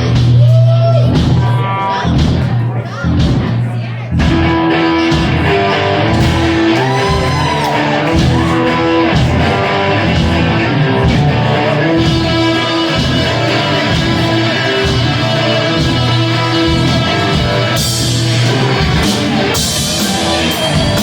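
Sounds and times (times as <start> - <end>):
rock band playing metal: 0.0 - 21.0.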